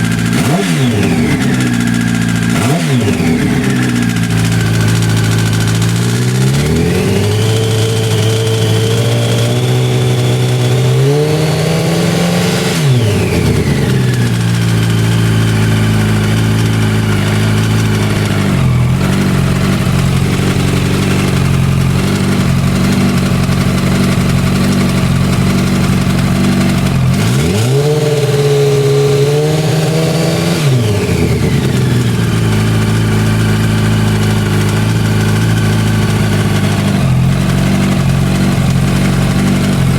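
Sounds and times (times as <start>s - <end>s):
engine rattle at idle: 0.0s - 11.9s, 12.7s - 39.9s
motorcycle engine revving: 0.0s - 39.9s.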